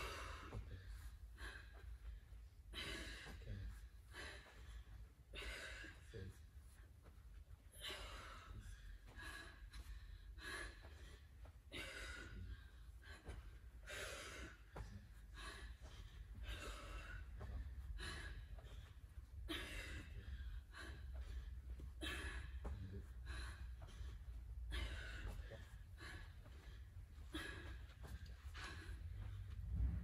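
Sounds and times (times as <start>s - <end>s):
steady low hum: 0.0s - 30.0s
woman gasping breaths: 0.0s - 30.0s.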